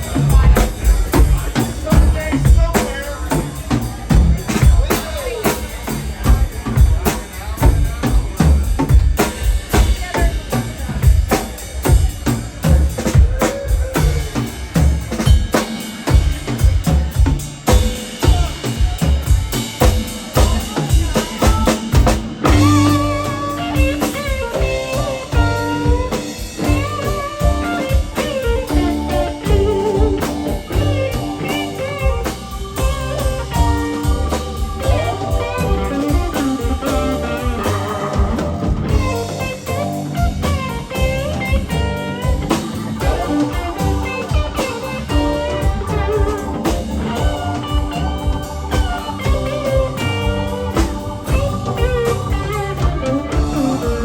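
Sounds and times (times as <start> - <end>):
bass: 0.0 - 54.0
drums: 0.0 - 54.0
electric guitars: 0.0 - 54.0
keyboards: 0.0 - 54.0
lead guitar lines: 0.0 - 54.0.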